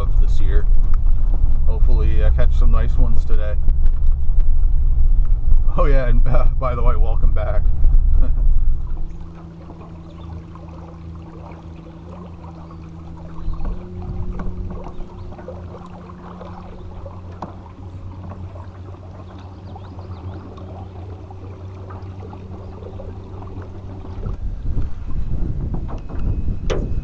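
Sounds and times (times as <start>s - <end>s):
electric trolling motor humming: 0.0s - 27.0s
water splashing against hull: 0.0s - 27.0s
wind buffeting microphone: 0.0s - 27.0s.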